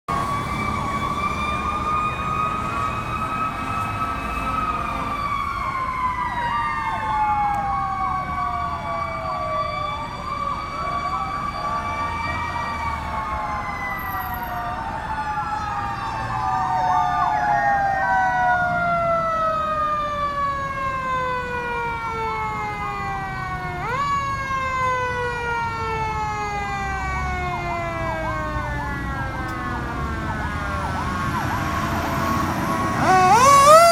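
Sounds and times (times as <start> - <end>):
fire truck sirens wailing: 0.1 - 33.9
truck engines rumbling: 0.1 - 33.9.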